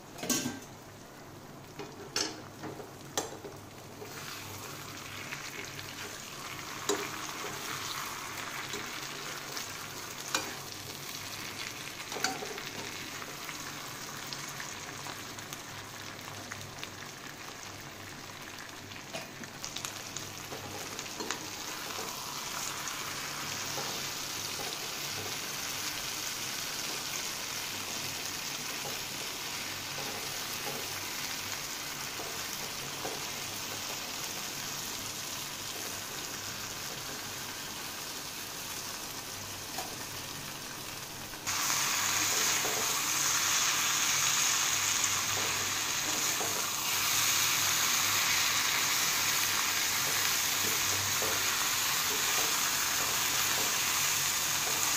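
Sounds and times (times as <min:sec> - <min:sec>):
food sizzling in oil: 0:00.0 - 0:54.9.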